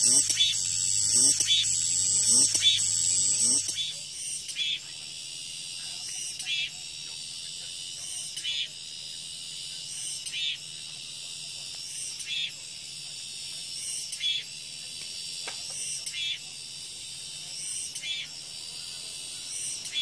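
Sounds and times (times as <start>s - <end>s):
cicadas buzzing: 0.0s - 20.0s
loud cicada call: 0.0s - 20.0s.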